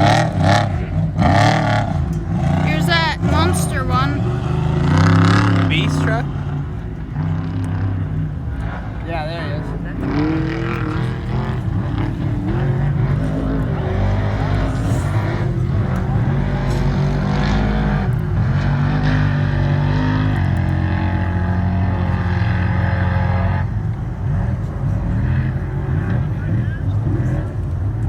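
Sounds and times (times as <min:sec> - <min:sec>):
truck engine running hard: 0:00.0 - 0:28.0.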